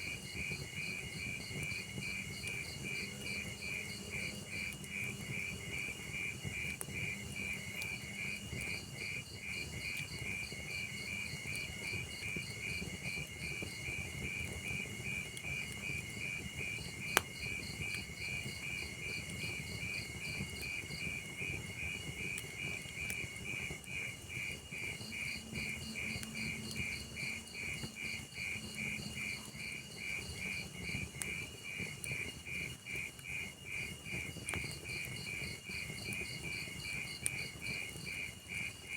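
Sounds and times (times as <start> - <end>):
crickets chirping: 0.0 - 38.9
log fire crackling: 0.0 - 38.9
fire popping: 0.1 - 29.4, 30.0 - 38.9.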